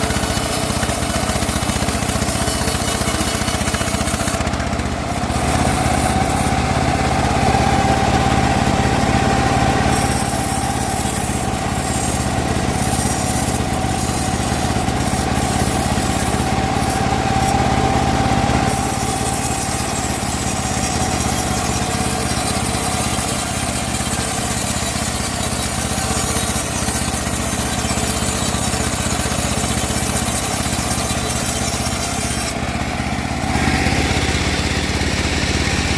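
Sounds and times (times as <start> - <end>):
band sawmill cutting wood: 0.0 - 35.9.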